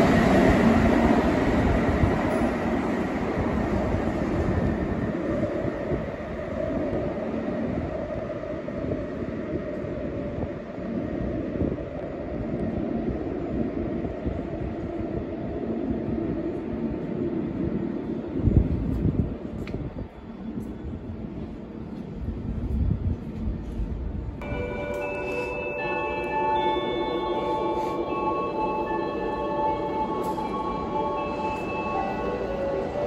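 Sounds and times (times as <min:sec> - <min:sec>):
metro train rumbling: 0:00.0 - 0:33.0.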